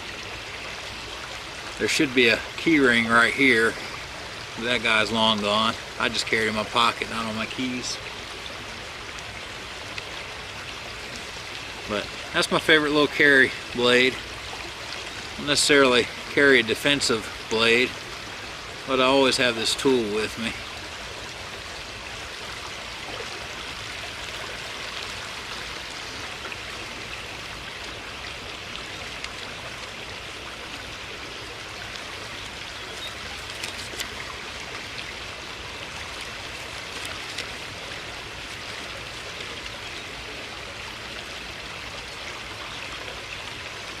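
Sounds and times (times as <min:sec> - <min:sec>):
running water rushing: 0:00.0 - 0:44.0.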